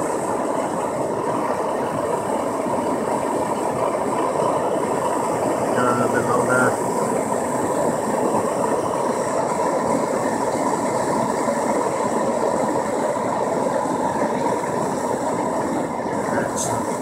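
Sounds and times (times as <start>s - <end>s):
blowtorch flame rushing: 0.0s - 17.0s.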